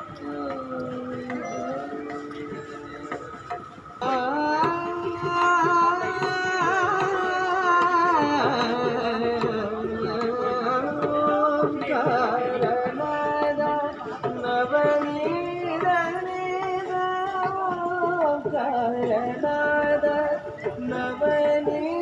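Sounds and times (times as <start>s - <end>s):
indian classical music: 0.0s - 22.0s.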